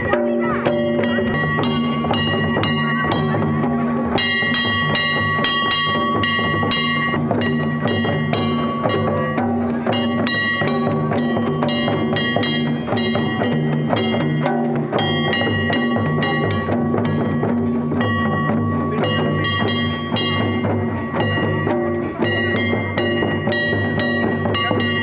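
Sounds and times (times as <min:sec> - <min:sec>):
metallic bell-like tones: 0:00.0 - 0:25.0.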